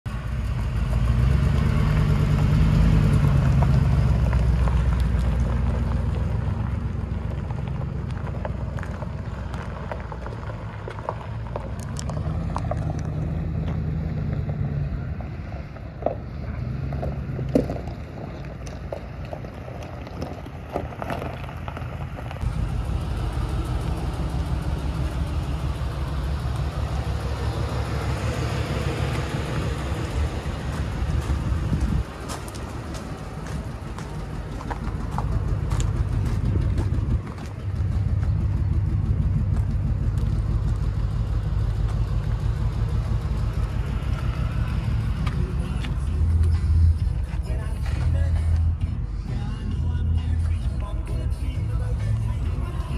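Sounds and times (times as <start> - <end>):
truck engine driving on gravel: 0.1 - 52.9.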